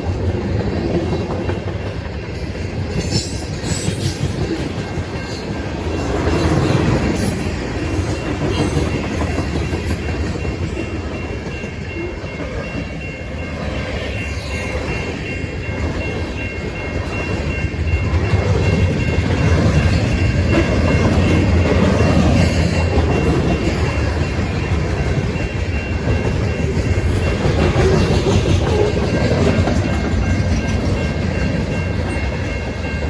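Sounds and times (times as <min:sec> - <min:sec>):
train wheels clacking over rails: 0:00.0 - 0:13.8, 0:14.7 - 0:33.0.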